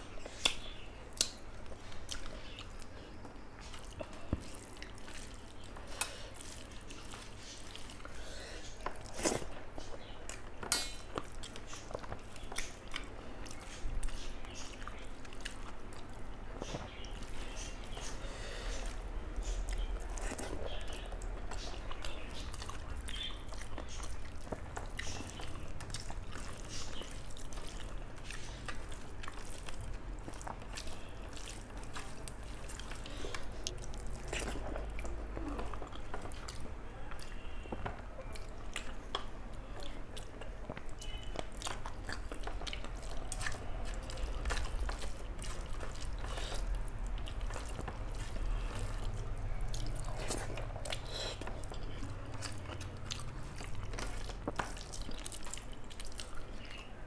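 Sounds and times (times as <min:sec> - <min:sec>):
low steady hum: 0:00.0 - 0:57.0
person chewing food: 0:00.0 - 0:57.0.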